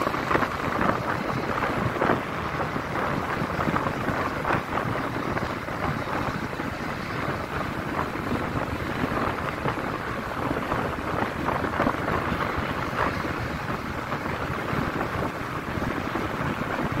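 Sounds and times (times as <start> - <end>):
motorcycle riding noise: 0.0 - 17.0
wind buffeting microphone: 0.0 - 17.0.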